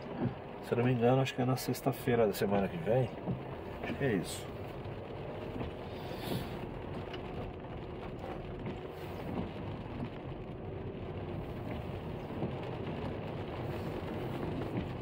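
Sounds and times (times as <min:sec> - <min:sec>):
car interior engine and tyre noise: 0:00.0 - 0:15.0.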